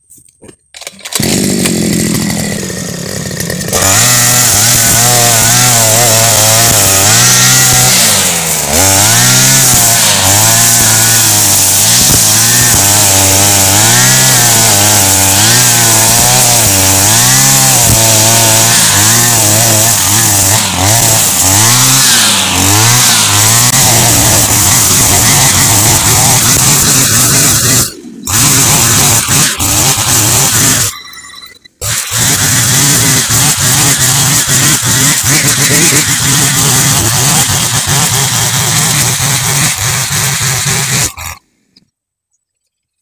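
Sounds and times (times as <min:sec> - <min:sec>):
brushcutter cutting grass: 0:00.7 - 0:31.2, 0:31.8 - 0:41.5.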